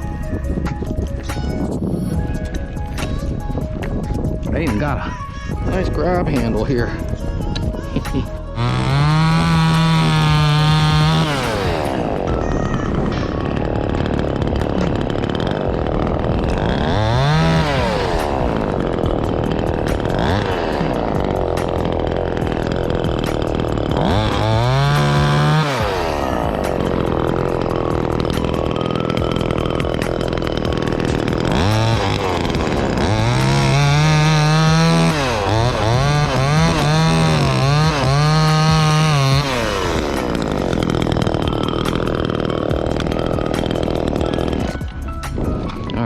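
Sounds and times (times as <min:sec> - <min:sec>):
chainsaw revving: 0:06.5 - 0:46.0.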